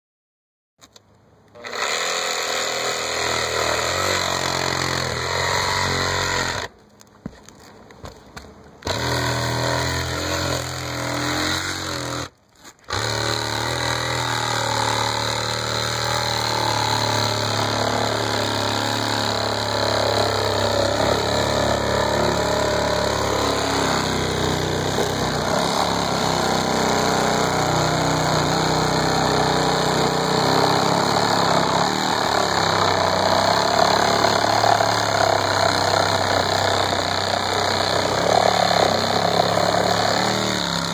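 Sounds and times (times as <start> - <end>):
reciprocating saw cutting shingles: 0.8 - 40.9.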